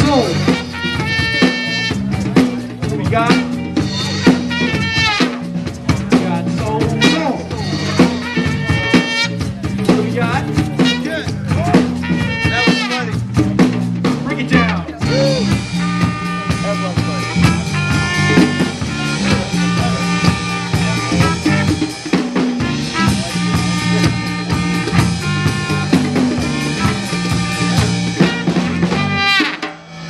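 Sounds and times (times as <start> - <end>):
electric guitars: 0.0 - 29.4
drum kit with rimshots: 0.0 - 30.0
electric bass: 0.0 - 30.0.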